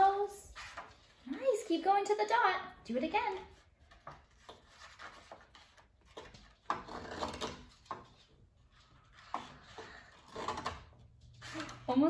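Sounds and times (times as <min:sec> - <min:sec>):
paper rustling: 0:00.0 - 0:01.7, 0:03.3 - 0:11.9.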